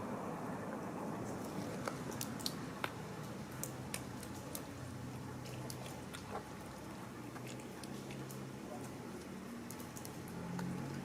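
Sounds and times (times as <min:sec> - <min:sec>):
cats chewing food: 0:01.3 - 0:11.0.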